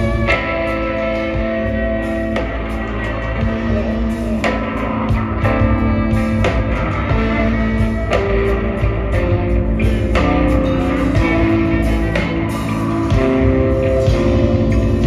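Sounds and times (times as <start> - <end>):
bass guitar: 0.0 - 15.0
drums: 0.0 - 15.0
guitars: 0.0 - 15.0.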